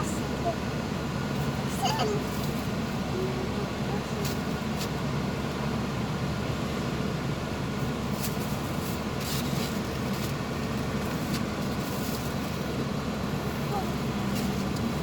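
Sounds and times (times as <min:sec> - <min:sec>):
vehicle and road rumble: 0:00.0 - 0:15.0.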